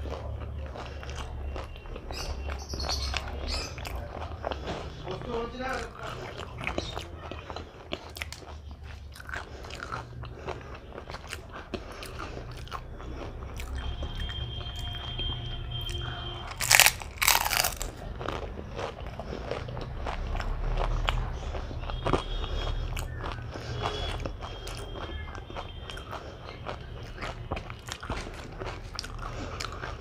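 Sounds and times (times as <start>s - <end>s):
crunching and chewing: 0.0s - 30.0s
wet mouth sounds: 0.0s - 30.0s.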